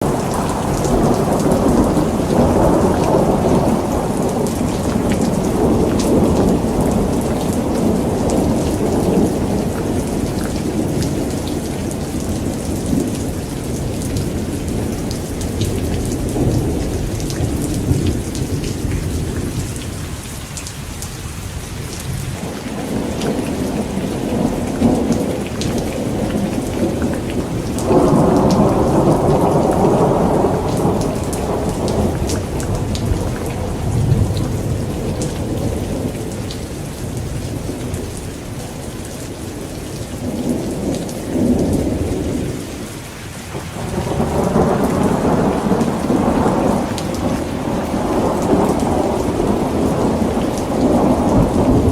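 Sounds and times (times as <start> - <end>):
rolling thunder: 0.0 - 20.2, 21.8 - 39.6, 43.5 - 51.9
heavy rain: 0.0 - 51.9.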